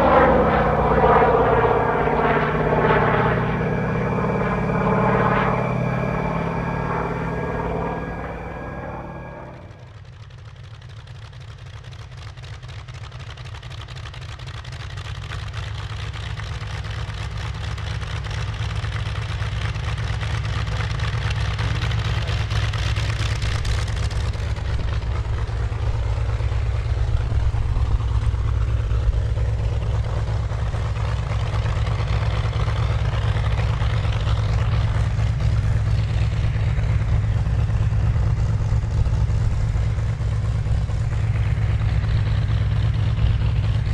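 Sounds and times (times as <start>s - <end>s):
propeller noise: 0.0s - 43.9s
simulated radial engine rumble: 0.0s - 43.9s.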